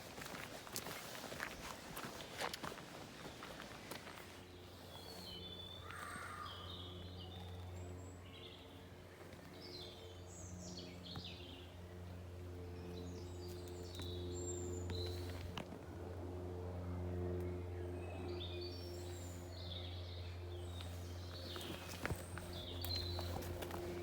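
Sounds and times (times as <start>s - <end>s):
birds calling and chirping: 0.0s - 15.6s, 17.2s - 24.0s
low mechanical hum: 0.0s - 24.0s.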